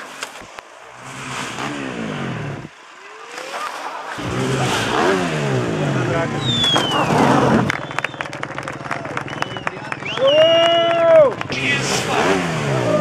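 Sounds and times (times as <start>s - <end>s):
quad bike engine revving: 0.7s - 13.0s.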